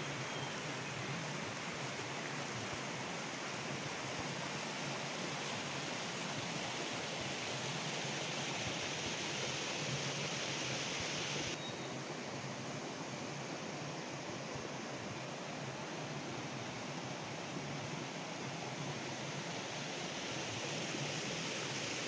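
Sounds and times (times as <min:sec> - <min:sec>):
waterfall rushing into pool: 0:00.0 - 0:12.9, 0:14.6 - 0:22.0.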